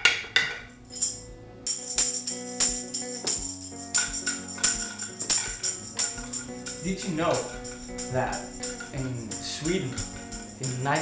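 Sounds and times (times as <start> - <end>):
music track with held notes: 0.0 - 11.0
tambourine jingling: 0.6 - 11.0.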